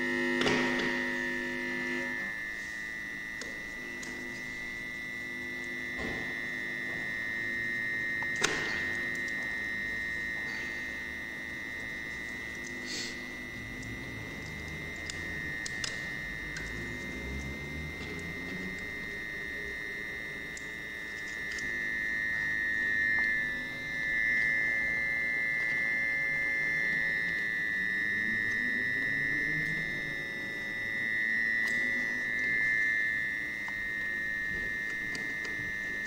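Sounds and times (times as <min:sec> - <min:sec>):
high-pitched electronic tone: 0:00.0 - 0:36.0
lower wandering electronic tones: 0:00.0 - 0:36.0.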